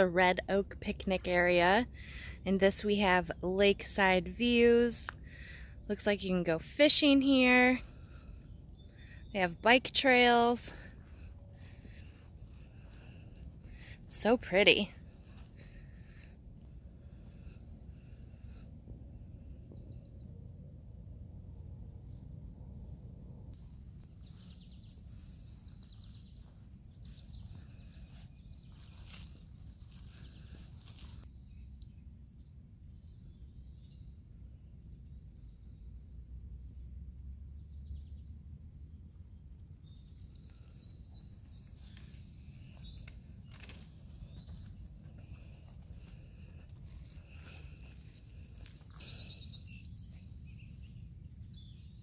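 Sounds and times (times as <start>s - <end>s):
steady low rumble: 0.0s - 52.0s
birds chirping: 1.0s - 21.1s, 22.7s - 36.4s, 37.4s - 52.0s.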